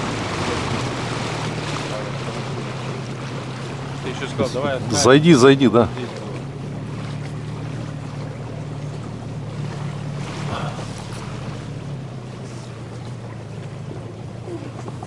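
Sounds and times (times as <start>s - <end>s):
small boat motor humming: 0.0s - 15.0s.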